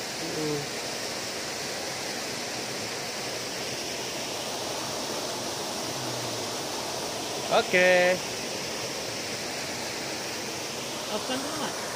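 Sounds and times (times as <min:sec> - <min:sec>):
water rushing over rocks: 0:00.0 - 0:11.9.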